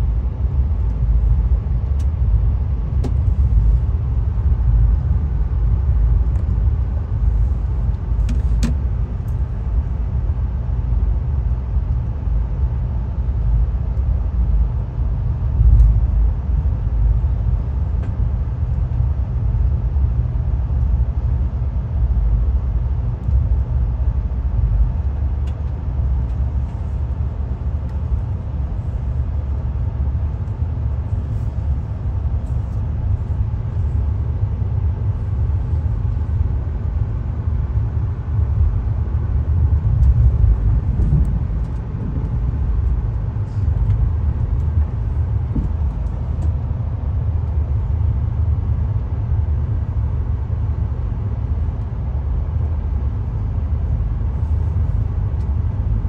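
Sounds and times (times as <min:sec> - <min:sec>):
train rumble from aboard: 0:00.0 - 0:56.0.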